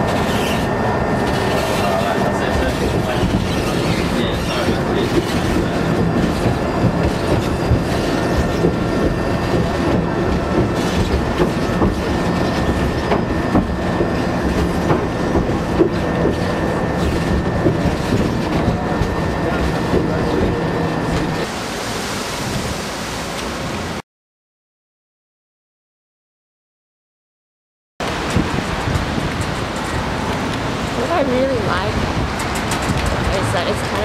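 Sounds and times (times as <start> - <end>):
train wheels clattering on tracks: 0.0 - 21.5, 28.0 - 34.0.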